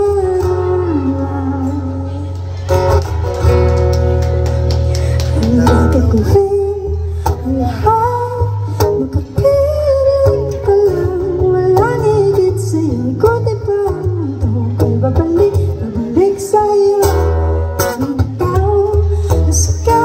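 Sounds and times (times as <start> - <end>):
woman singing into microphone: 0.0 - 2.5, 5.3 - 20.0.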